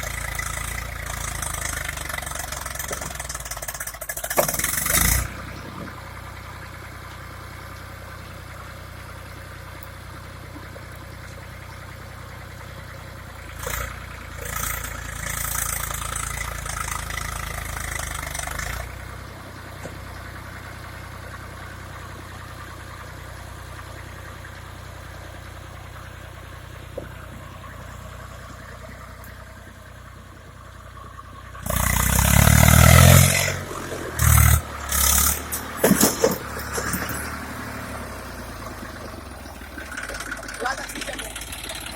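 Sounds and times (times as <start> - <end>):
tractor diesel engine revving: 0.0 - 41.9.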